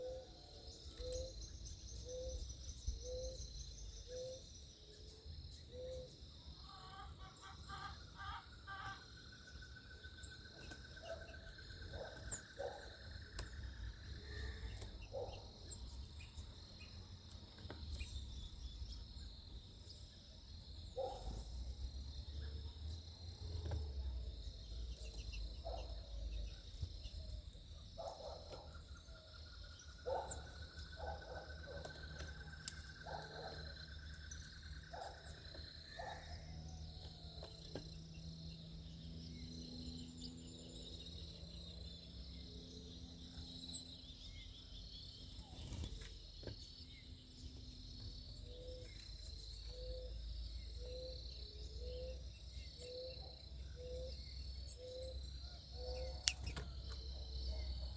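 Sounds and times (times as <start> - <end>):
insects chirring: 0.0 - 57.9.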